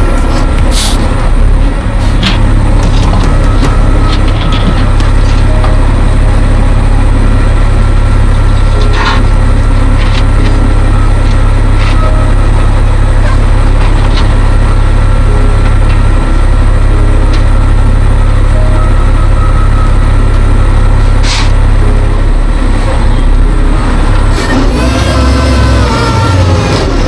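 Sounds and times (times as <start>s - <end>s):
truck diesel engine rumbling: 0.0s - 27.0s.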